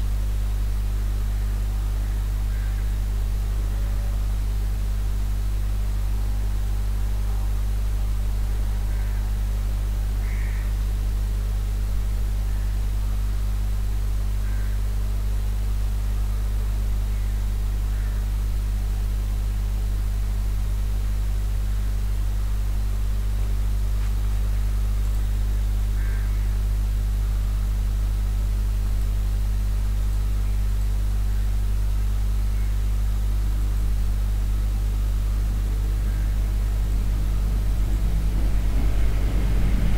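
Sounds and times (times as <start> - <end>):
low electrical hum with hiss: 0.0 - 39.9.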